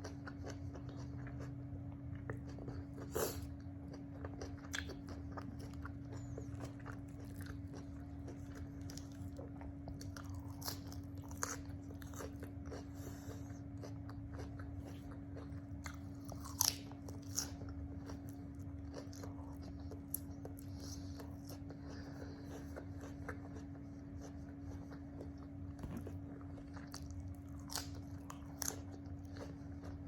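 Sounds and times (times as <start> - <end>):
chewing and crunching: 0.0 - 30.0.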